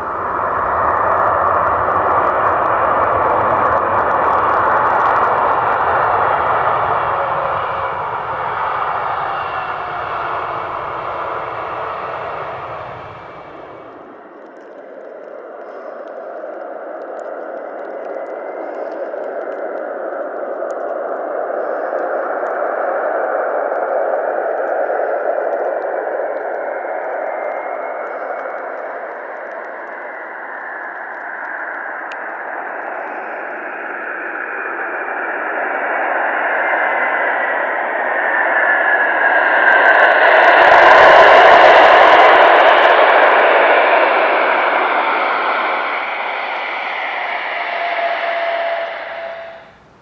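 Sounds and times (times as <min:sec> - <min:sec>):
faint falling whine: 0:00.0 - 0:50.0
jet engines roaring: 0:00.0 - 0:50.0.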